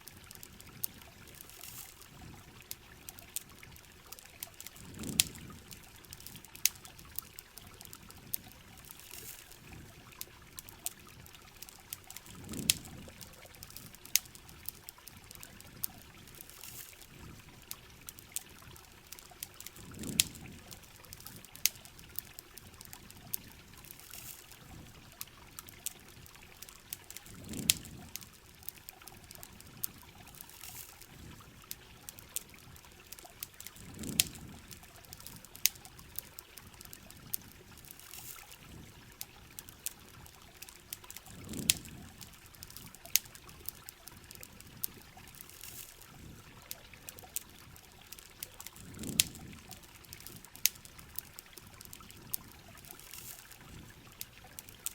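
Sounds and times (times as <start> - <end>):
campfire pops: 0.0 - 54.9.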